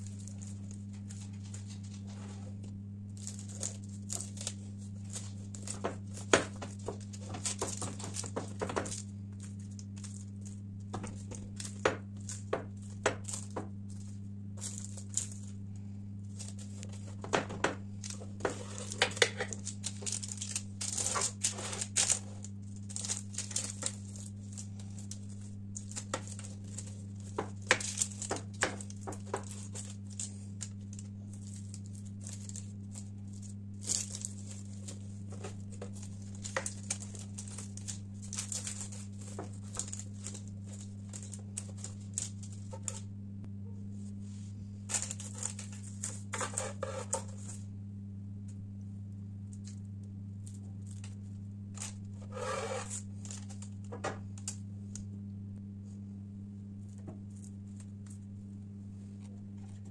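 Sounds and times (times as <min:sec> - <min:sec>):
baking paper crinkling: 0:00.0 - 0:43.1, 0:43.9 - 0:47.7, 0:49.6 - 0:54.6
steady low hum: 0:00.0 - 0:59.9.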